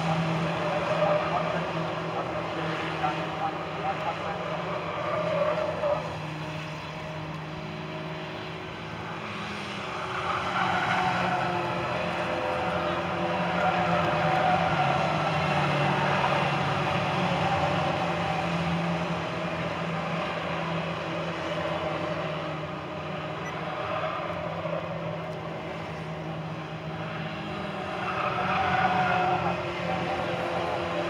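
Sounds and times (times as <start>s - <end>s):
racing car engines passing: 0.0s - 31.0s.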